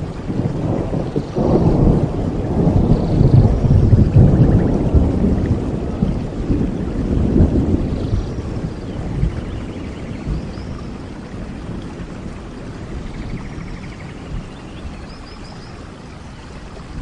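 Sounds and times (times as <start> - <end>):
rolling thunder: 0.0 - 15.1
steady rain: 0.0 - 17.0.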